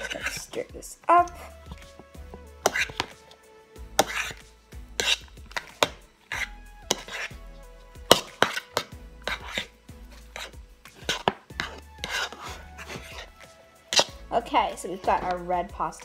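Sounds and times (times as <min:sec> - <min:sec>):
metal utensil scraping bowl: 0:00.0 - 0:16.0.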